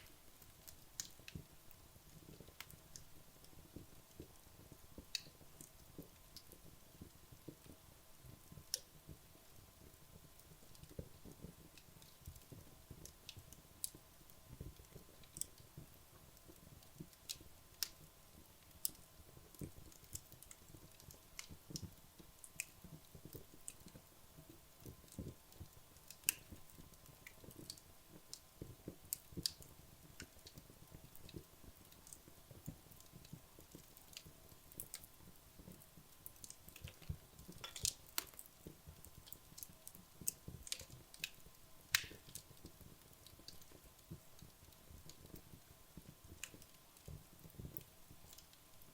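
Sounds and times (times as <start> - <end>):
logs crackling and popping: 0.0 - 48.9
soft flutter of flames: 0.0 - 48.9.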